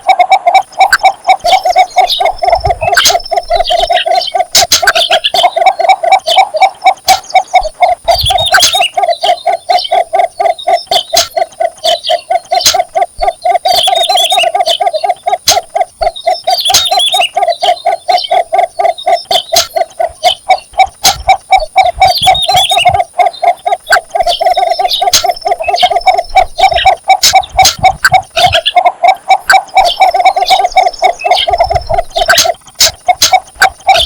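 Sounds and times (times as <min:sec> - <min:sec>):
bird rapid low clucking call: 0:00.0 - 0:34.0.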